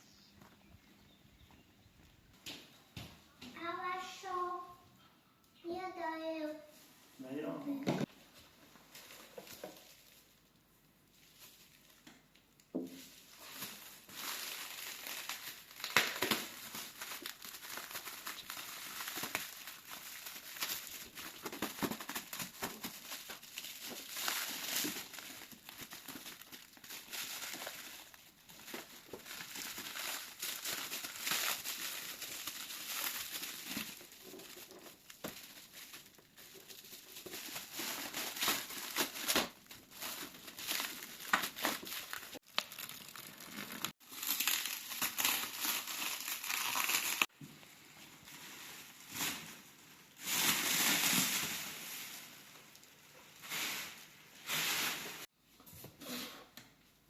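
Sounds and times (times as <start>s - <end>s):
crinkling and rustling: 7.7s - 55.3s.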